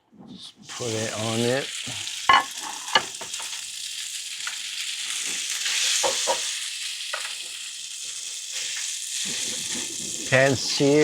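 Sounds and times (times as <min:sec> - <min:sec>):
food sizzling in hot oil: 0:00.6 - 0:11.0.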